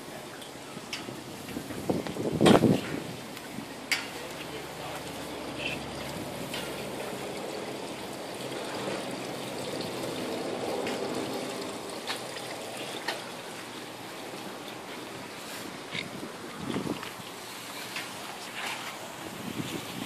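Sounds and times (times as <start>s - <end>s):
water trickling and lapping: 0.0s - 20.0s.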